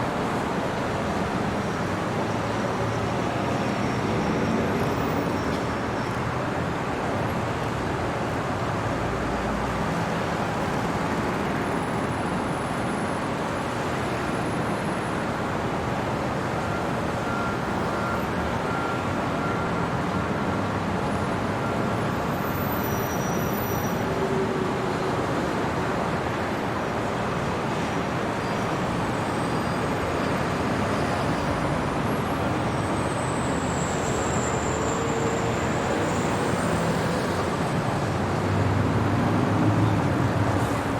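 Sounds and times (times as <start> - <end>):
road noise from passing vehicles: 0.0 - 40.9.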